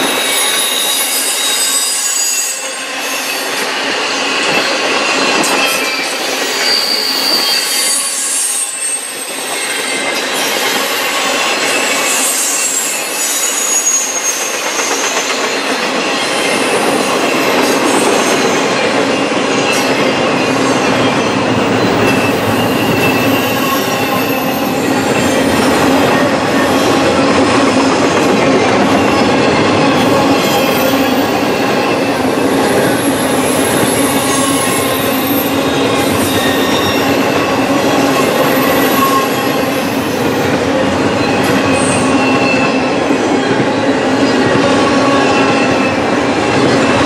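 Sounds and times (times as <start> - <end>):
high-pitched wheel squeals: 0.0 - 18.8, 20.6 - 26.8, 29.2 - 43.6
roar of steel wheels on rail: 0.0 - 47.0.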